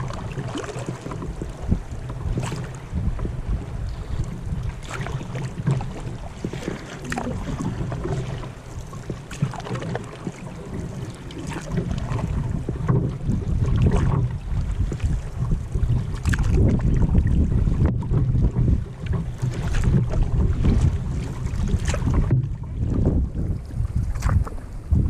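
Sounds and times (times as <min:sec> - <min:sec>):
paddle splashing water: 0:00.0 - 0:25.0
wind buffeting microphone: 0:00.0 - 0:25.0.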